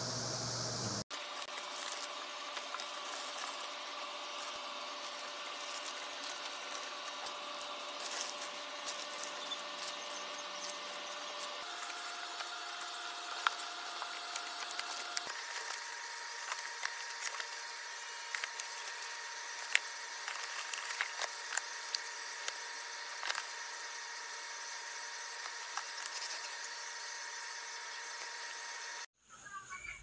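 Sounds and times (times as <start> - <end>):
cardboard and bubble wrap crinkling: 1.1 - 24.4, 25.1 - 27.2.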